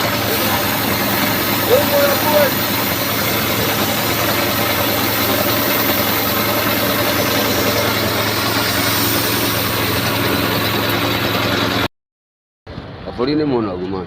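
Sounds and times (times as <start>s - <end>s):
engine idling hum: 0.0s - 11.9s.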